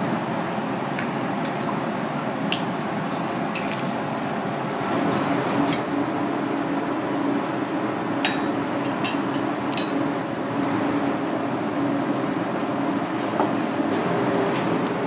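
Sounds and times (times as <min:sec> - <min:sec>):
kitchen background hum: 0:00.0 - 0:15.0.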